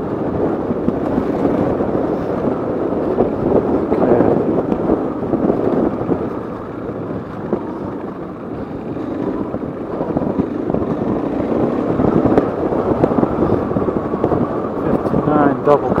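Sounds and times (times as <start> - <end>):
dirt bike engine running: 0.0 - 16.0
wind buffeting microphone: 0.0 - 16.0.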